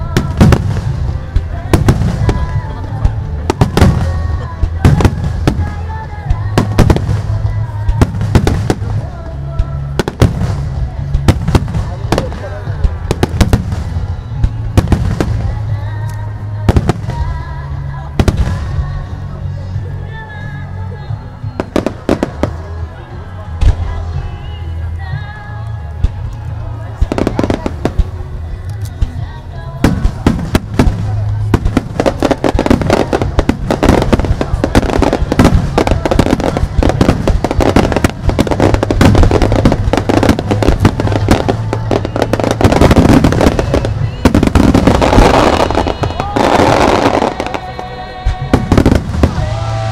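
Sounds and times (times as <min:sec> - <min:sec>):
fireworks crackling: 0:00.0 - 0:19.6, 0:21.6 - 0:49.9
music playing: 0:00.0 - 0:49.9.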